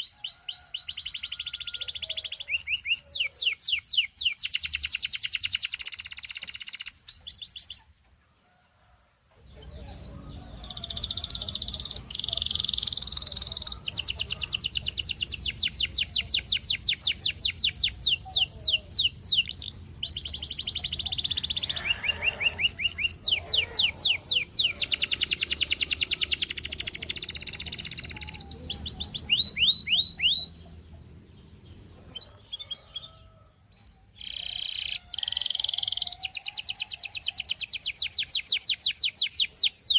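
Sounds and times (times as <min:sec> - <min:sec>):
canary singing trills: 0:00.0 - 0:08.0, 0:09.4 - 0:39.9.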